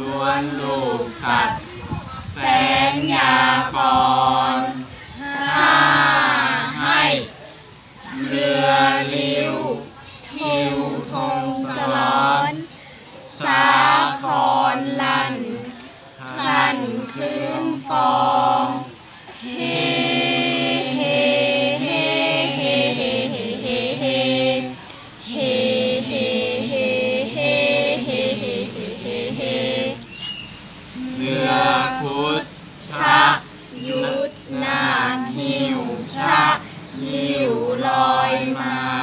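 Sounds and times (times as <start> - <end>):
group chanting in unison: 0.0 - 30.1, 31.0 - 39.0.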